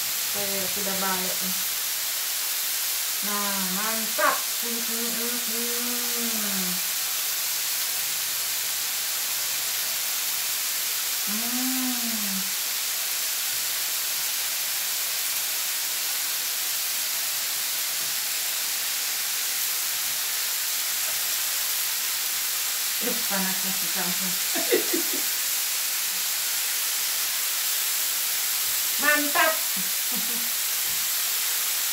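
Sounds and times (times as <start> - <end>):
meat sizzling on a grill: 0.0 - 31.9.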